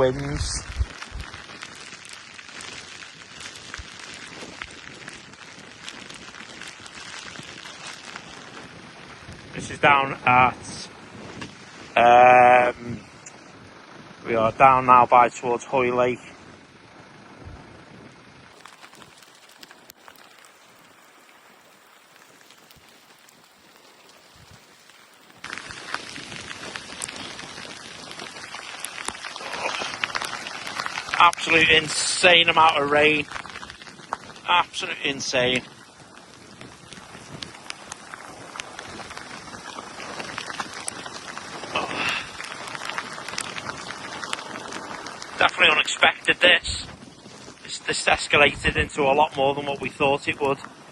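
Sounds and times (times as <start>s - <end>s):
heavy rain hissing: 0.0s - 15.5s, 18.5s - 50.9s
raindrops hitting close by: 0.0s - 50.9s.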